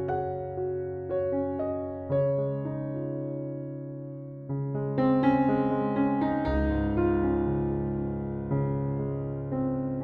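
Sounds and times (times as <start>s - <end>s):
soft electric piano chords: 0.0s - 10.0s.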